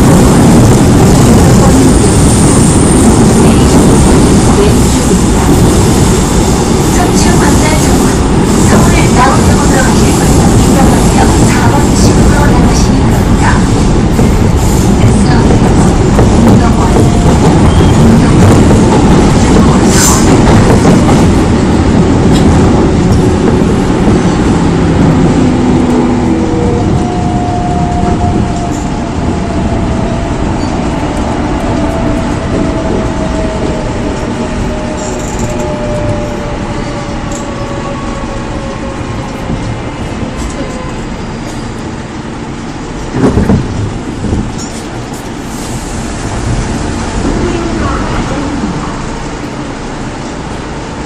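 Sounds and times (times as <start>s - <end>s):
wheels on rail: 0.0s - 51.0s.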